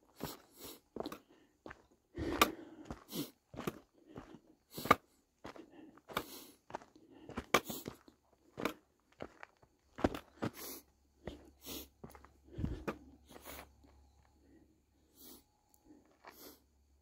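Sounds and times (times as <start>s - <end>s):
footsteps crunching on gravel: 0.2s - 14.0s.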